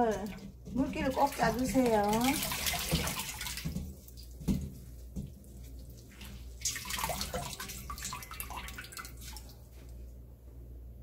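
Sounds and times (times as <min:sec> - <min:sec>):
water splashing in metal bowl: 0:00.0 - 0:09.6
water running off leaves: 0:00.0 - 0:09.7.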